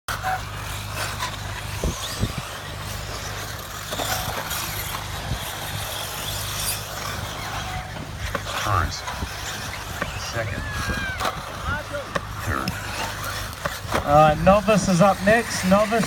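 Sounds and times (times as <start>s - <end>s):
high-pitched electric motors: 0.2s - 16.0s.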